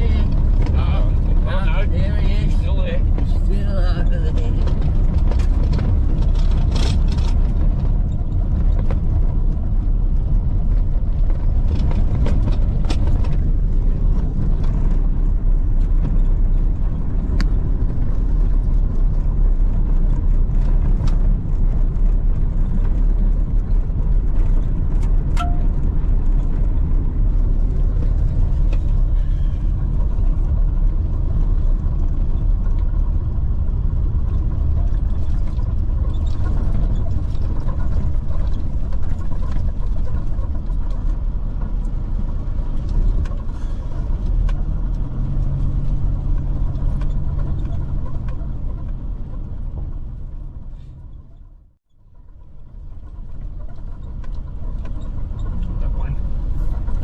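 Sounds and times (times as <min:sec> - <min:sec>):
car road rumble inside cabin: 0:00.0 - 0:57.0.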